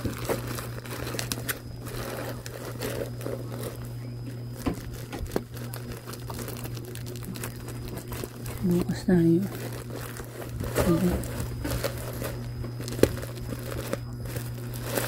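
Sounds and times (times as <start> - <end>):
electric fan humming: 0.0 - 15.0
plastic packaging crinkling: 0.0 - 15.0.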